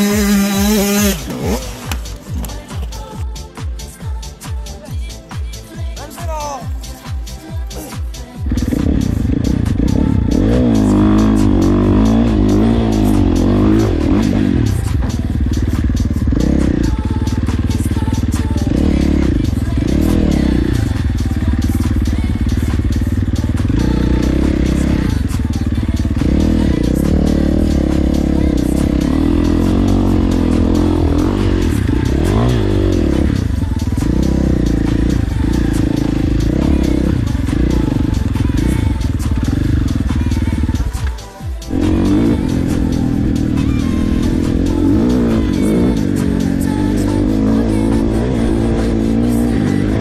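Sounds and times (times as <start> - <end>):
motorbike engine revving: 0.0 - 3.3, 6.2 - 50.0
music: 0.0 - 50.0.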